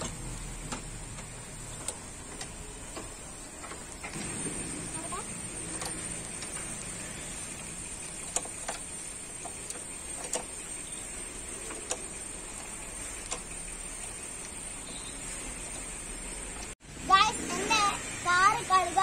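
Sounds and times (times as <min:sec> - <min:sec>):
gear lever and pedal clicks: 0:00.0 - 0:16.8
high-pitched whine: 0:02.6 - 0:19.0.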